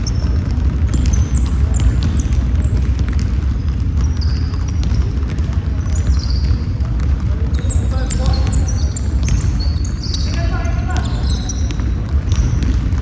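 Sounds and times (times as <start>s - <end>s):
basketball bouncing: 0.0s - 13.0s
sneakers squeaking on floor: 0.0s - 13.0s.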